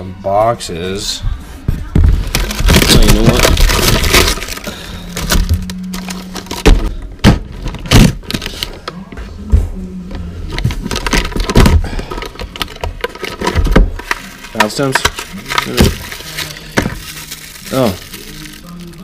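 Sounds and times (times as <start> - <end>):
plastic packages rustling: 2.0 - 9.0, 10.5 - 19.0.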